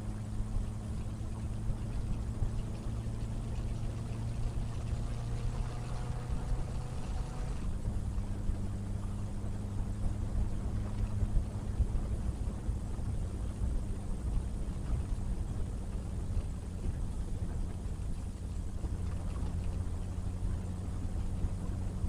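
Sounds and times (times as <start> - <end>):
wind rumbling over microphone: 0.0 - 22.0.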